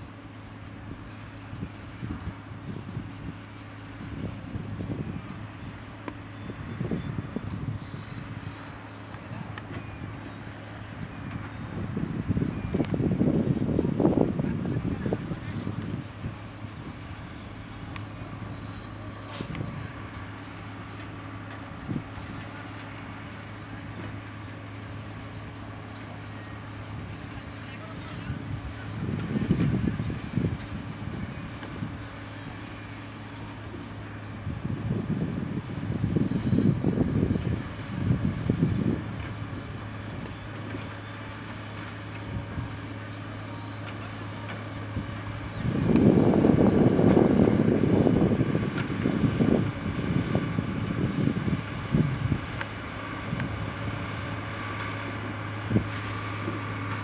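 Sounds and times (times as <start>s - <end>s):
diesel engine running: 0.0s - 57.0s
grader blade pushing through soil: 0.0s - 57.0s.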